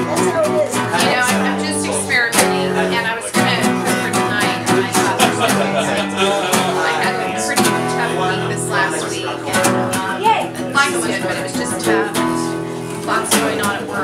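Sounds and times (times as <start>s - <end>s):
acoustic guitars strumming chords: 0.0s - 14.0s.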